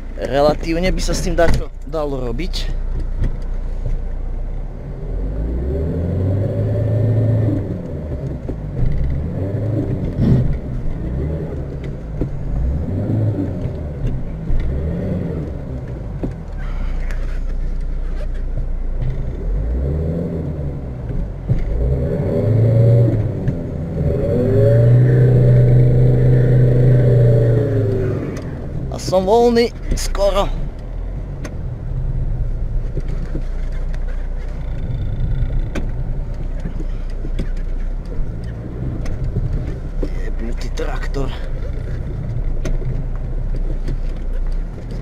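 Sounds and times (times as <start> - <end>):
diesel car engine revving: 0.0 - 45.0.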